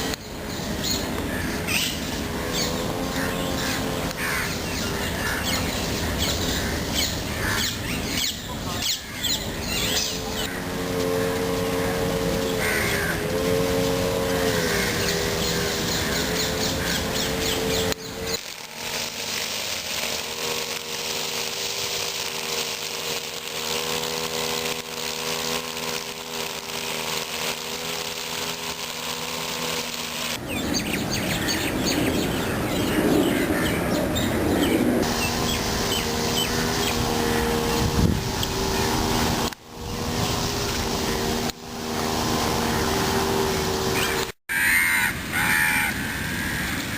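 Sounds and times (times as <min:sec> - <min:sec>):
steady mechanical hum: 0:00.0 - 0:44.4
birds chirping: 0:00.0 - 0:46.9.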